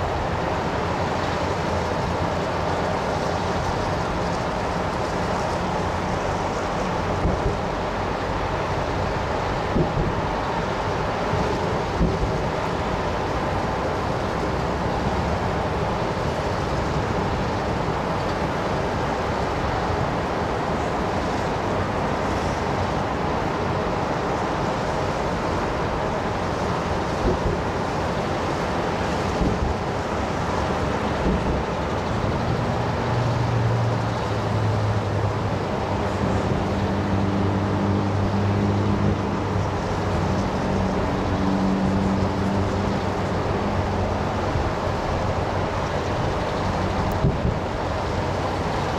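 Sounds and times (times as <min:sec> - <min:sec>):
city traffic noise: 0:00.0 - 0:48.9
low droning vehicle engine: 0:00.0 - 0:48.9.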